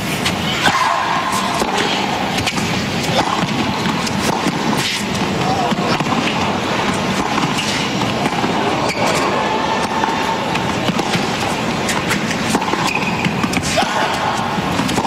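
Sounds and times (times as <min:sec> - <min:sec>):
murmur of stadium crowd: 0:00.0 - 0:15.0
tennis racquets hitting ball: 0:00.0 - 0:15.0.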